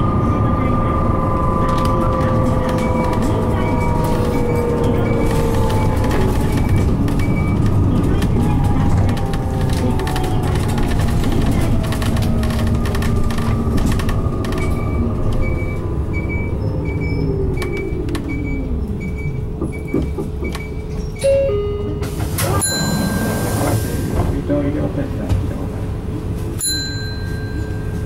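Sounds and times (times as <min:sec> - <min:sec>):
bus drivetrain whine: 0:00.0 - 0:28.0.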